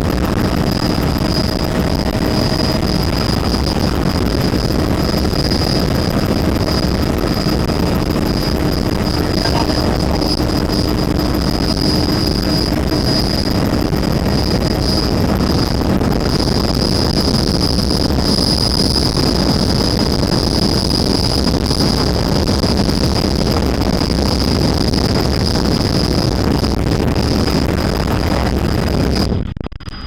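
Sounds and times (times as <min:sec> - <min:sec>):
helicopter rotor and engine noise: 0:00.0 - 0:29.2
high whine: 0:00.0 - 0:30.0.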